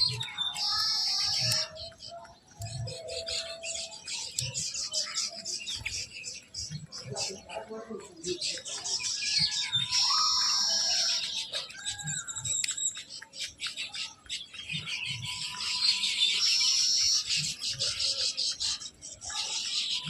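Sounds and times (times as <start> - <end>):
high bird trill: 0.0 - 7.7, 8.4 - 20.0
small birds chirping: 0.0 - 20.0.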